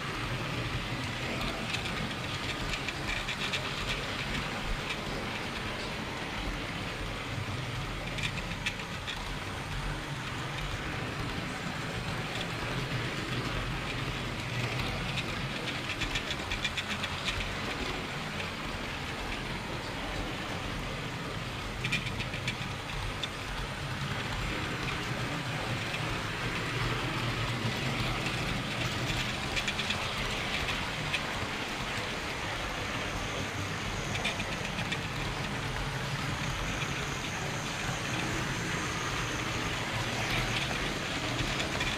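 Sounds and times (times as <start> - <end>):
model train rolling rumble: 0.0 - 41.9
wheels clicking rapidly: 0.0 - 41.9.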